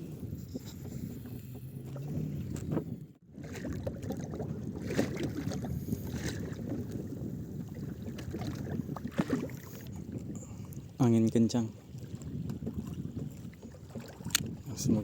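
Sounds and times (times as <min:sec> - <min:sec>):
strong wind on microphone: 0:00.0 - 0:11.3, 0:11.9 - 0:15.0.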